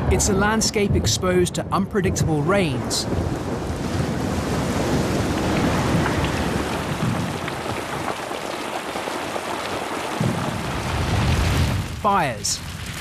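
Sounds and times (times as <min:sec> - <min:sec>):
low rumble of thunder: 0:00.0 - 0:12.0
heavy rain splashing: 0:00.0 - 0:13.0.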